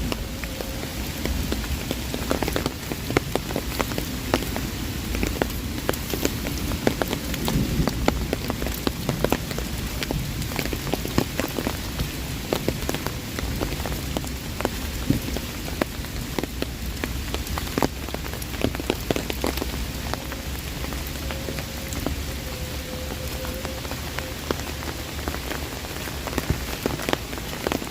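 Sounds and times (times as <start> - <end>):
heavy rain on umbrella: 0.0 - 27.9.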